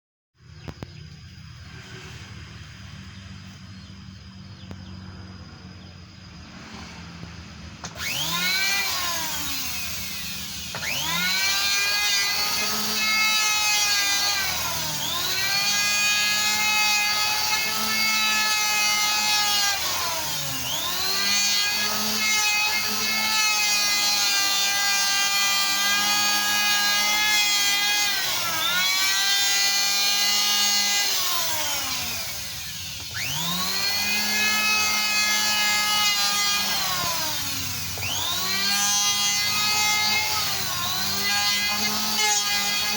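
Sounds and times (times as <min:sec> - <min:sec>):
power drill boring into wood: 0:07.8 - 0:42.9.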